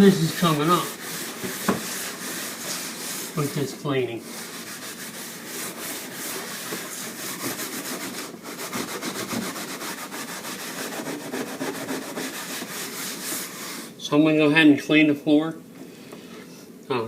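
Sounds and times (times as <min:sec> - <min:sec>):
steel wool scrubbing wooden floor: 0:00.0 - 0:14.0.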